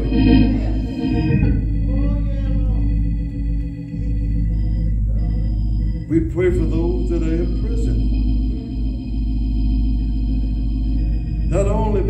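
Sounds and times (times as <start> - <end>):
organ playing held chords: 0.0 - 12.0.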